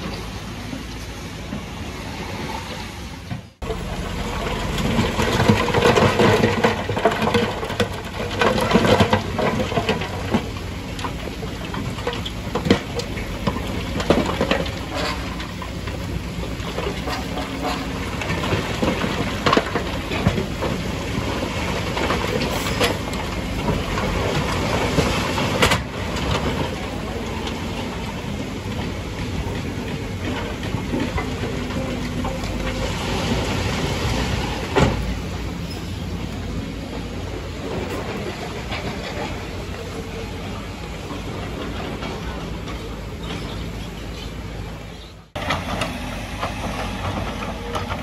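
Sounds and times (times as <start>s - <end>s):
truck engine running: 3.1s - 48.0s.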